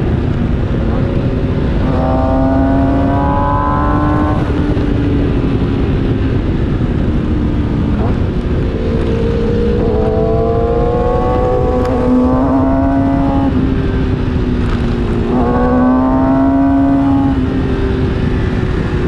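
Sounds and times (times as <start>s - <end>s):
motorcycle engine accelerating: 0.0s - 19.0s
wind rushing: 0.0s - 19.0s.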